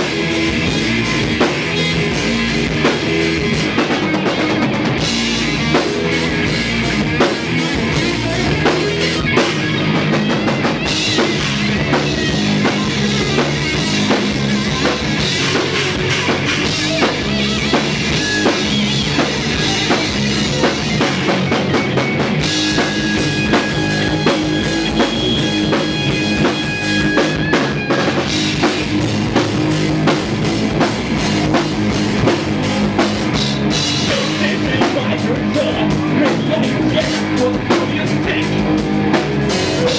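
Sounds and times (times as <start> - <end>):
pounding bass drum: 0.0 - 39.9
rock band playing live: 0.0 - 39.9
sustained high guitar line: 0.0 - 39.9.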